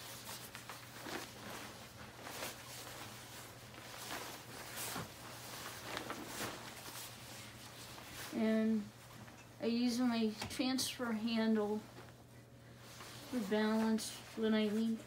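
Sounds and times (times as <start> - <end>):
fabric rustling: 0.0 - 9.3, 11.6 - 15.0.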